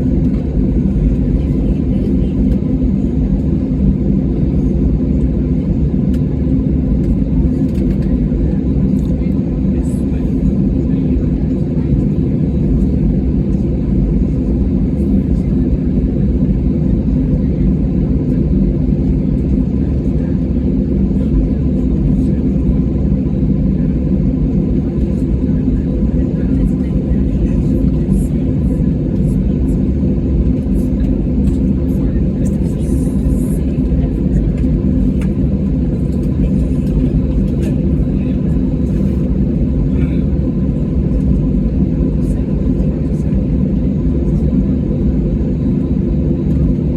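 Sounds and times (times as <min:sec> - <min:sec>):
jet engines rumbling in cabin: 0:00.0 - 0:46.9.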